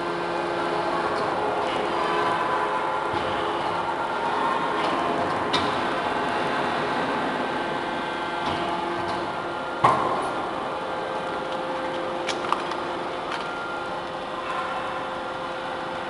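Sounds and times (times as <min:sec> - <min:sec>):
metal baler humming: 0:00.0 - 0:16.0.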